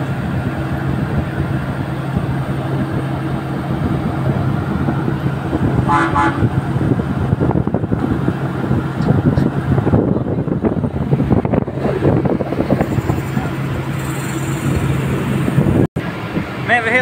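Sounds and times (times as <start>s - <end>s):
heavy machinery humming: 0.0s - 16.6s.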